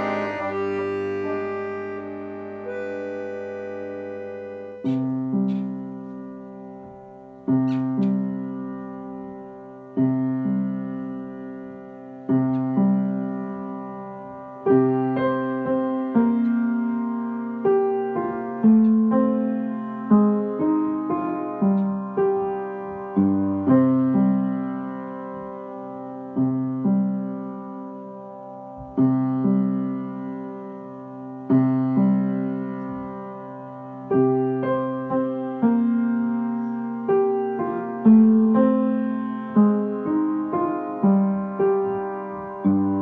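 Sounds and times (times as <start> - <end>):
upright piano playing: 0.0 - 43.0.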